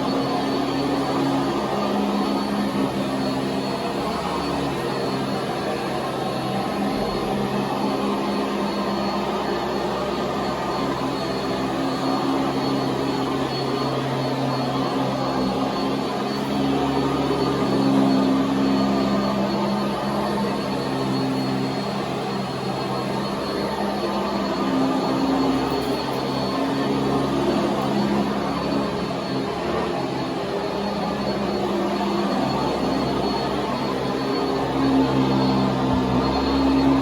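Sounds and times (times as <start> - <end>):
vacuum cleaner running on carpet: 0.0 - 37.0.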